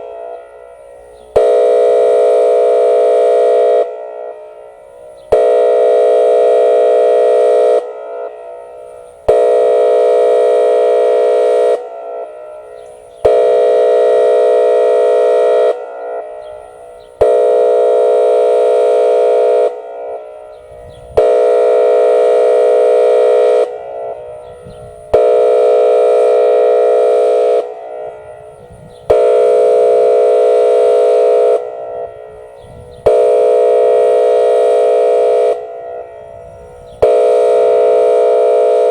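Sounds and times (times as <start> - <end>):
deep electronic air horn blasts: 0.0 - 38.9.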